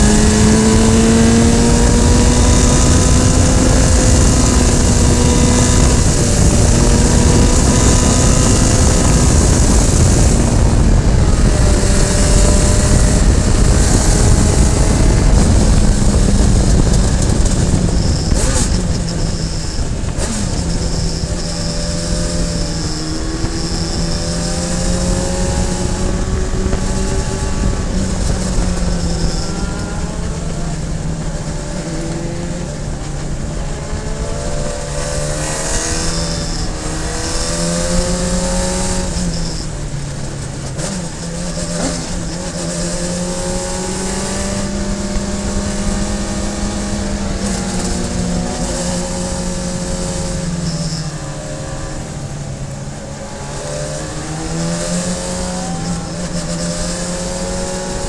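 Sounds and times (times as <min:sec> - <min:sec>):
sports car engine revving: 0:00.0 - 0:58.0.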